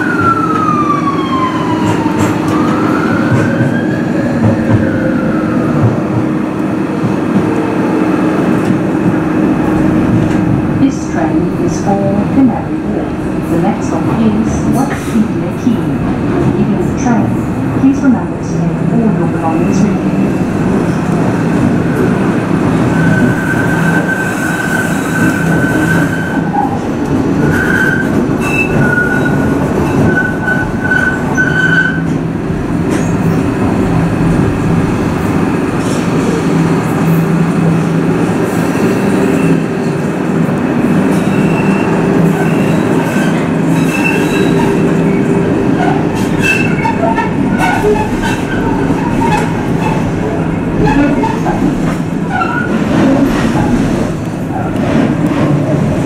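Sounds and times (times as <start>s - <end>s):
train rumble and motor hum: 0.0s - 56.0s.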